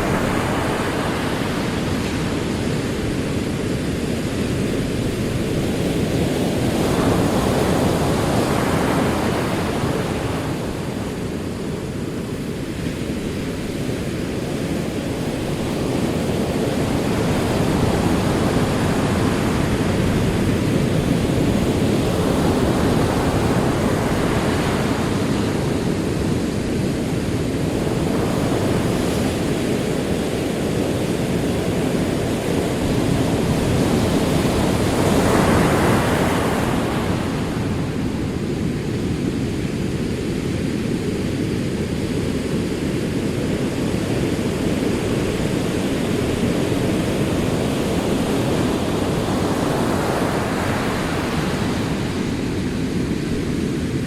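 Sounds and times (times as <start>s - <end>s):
ocean waves rolling: 0.0s - 54.0s.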